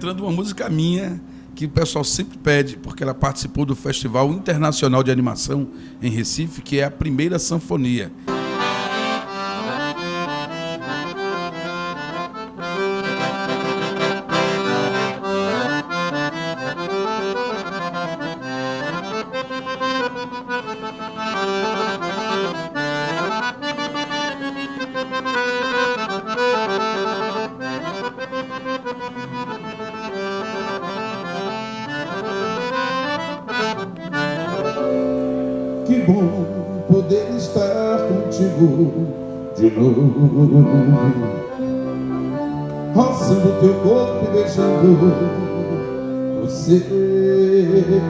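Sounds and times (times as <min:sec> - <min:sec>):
accordion playing a tune: 0:00.0 - 0:07.2, 0:08.0 - 0:48.0.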